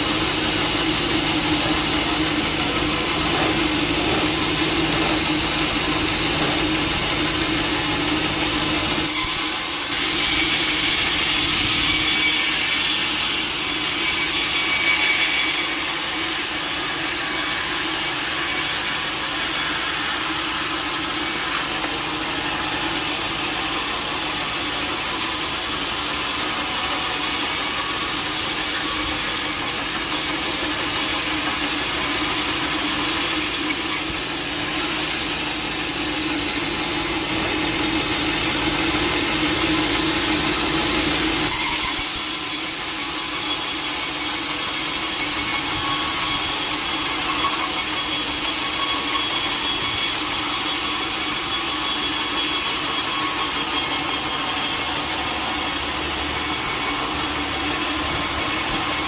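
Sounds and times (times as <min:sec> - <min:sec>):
sawmill blade cutting log: 0:00.0 - 0:59.0.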